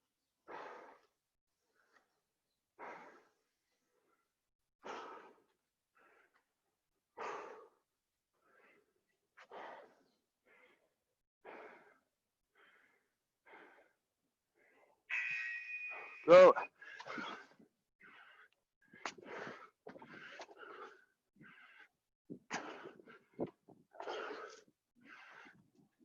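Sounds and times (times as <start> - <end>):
person breathing hard: 0.4 - 1.2, 2.8 - 4.2, 4.8 - 15.0, 16.8 - 26.0.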